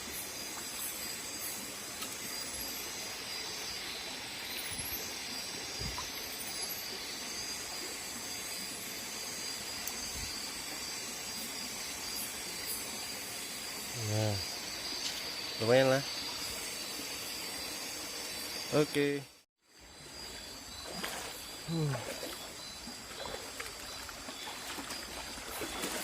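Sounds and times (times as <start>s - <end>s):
steady hiss: 0.0s - 22.4s
insects trilling: 0.0s - 26.0s.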